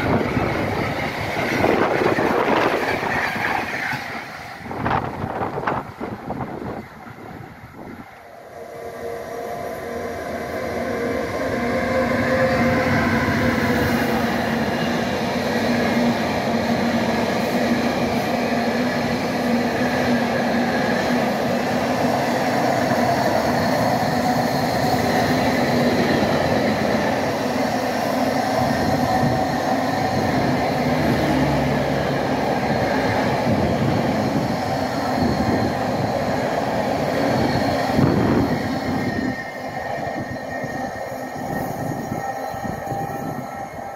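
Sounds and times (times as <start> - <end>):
freight train rumbling and rattling: 0.0 - 43.9.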